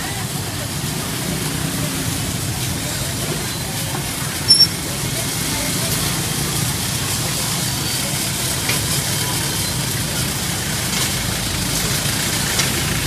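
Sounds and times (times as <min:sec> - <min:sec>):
motorbike engines idling: 0:00.0 - 0:13.0
street noise: 0:00.0 - 0:13.0.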